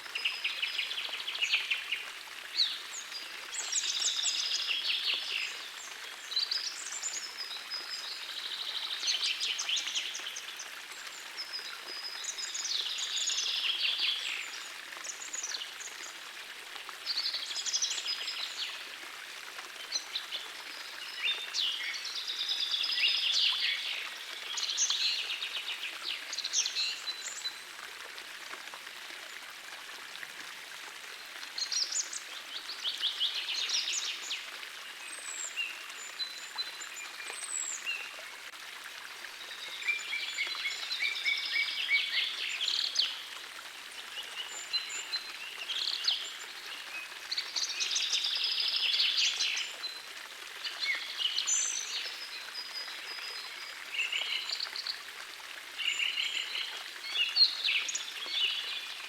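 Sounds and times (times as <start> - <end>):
forest stream hissing: 0.0 - 59.0.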